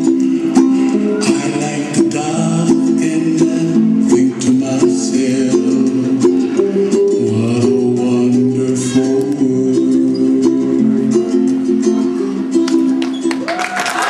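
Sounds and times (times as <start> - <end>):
strummed string instrument: 0.0 - 13.5.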